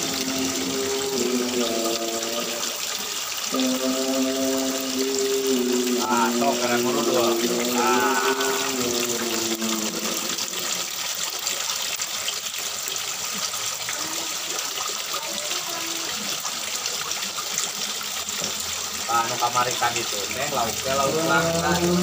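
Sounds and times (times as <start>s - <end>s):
water pouring into pond: 0.0s - 22.0s.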